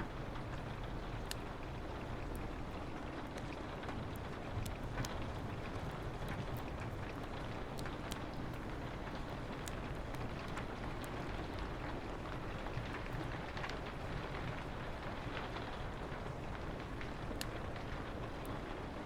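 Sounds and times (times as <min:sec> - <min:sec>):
rain on a window: 0:00.0 - 0:19.0
wood fire crackling: 0:00.0 - 0:19.0.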